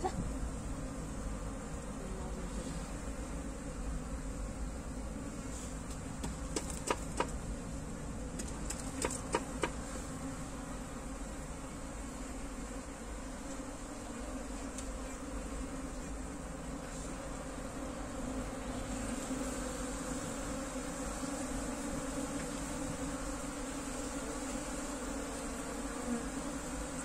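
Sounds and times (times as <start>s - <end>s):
honey bees buzzing: 0.0s - 27.0s.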